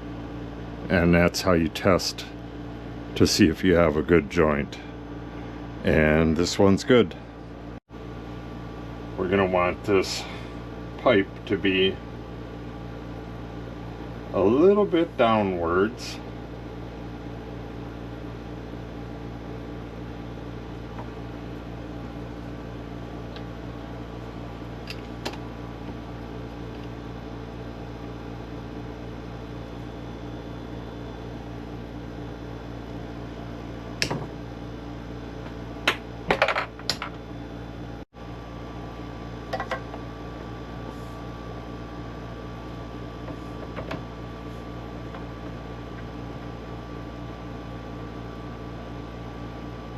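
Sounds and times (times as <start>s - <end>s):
background hum: 0.0s - 49.9s.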